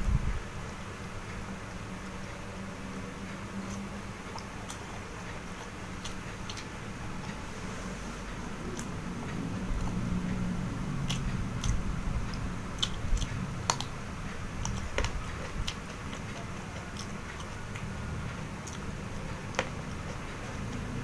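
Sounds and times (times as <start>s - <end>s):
crunchy chewing of raw vegetables: 3.5s - 21.0s.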